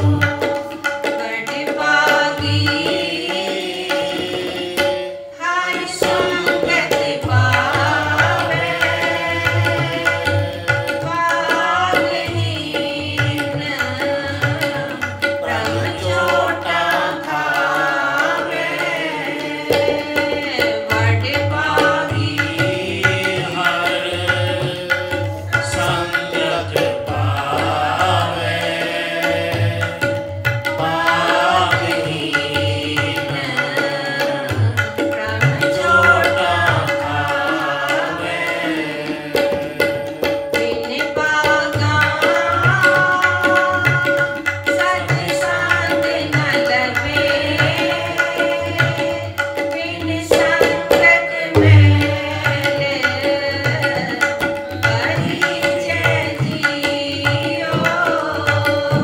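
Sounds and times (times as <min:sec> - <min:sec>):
woman singing: 0:00.0 - 0:24.7, 0:30.7 - 0:38.5, 0:39.4 - 0:59.0
tabla rhythm: 0:00.0 - 0:59.0.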